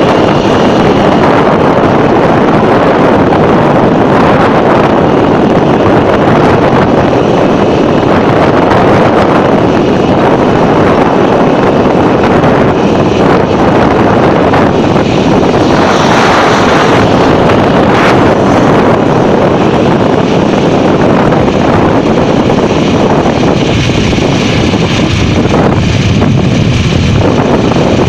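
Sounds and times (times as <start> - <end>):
vehicle road noise: 0.0 - 28.0
wind rushing over microphone: 0.0 - 28.0.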